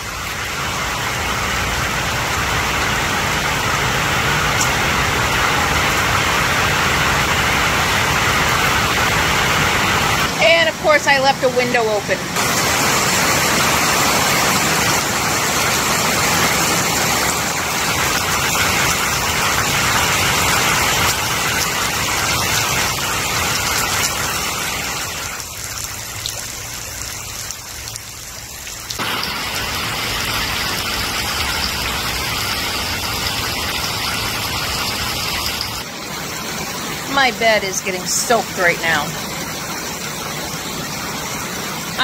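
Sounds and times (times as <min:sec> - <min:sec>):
heavy rain on water: 0:00.0 - 0:42.0.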